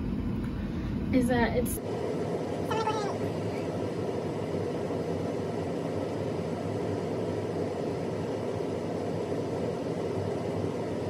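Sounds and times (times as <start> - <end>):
room noise hum and hiss: 0.0 - 11.0.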